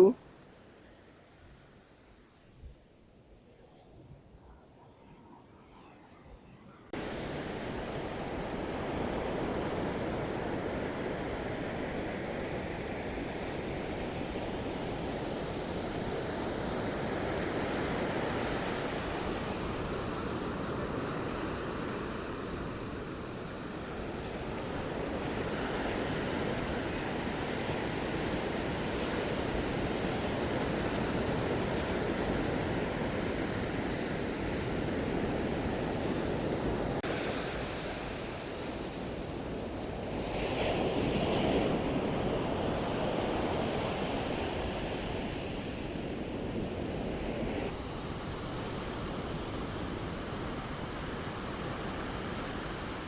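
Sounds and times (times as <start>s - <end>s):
surf breaking on a beach: 7.0s - 53.0s.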